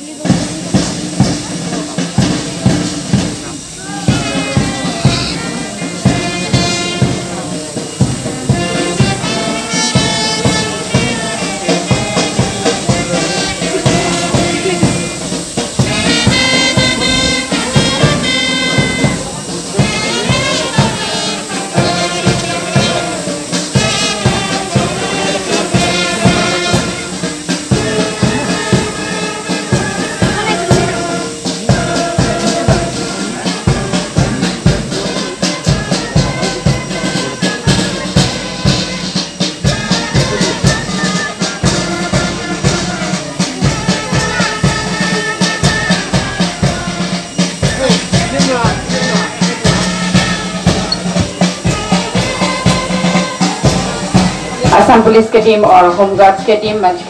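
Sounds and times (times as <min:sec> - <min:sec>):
brass band playing march: 0:00.0 - 0:57.0
steady drum beat: 0:00.0 - 0:57.0.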